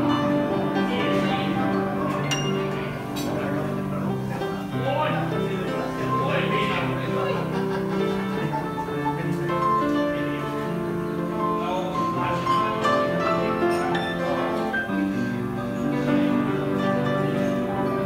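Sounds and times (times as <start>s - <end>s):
grand piano melody: 0.0s - 18.0s.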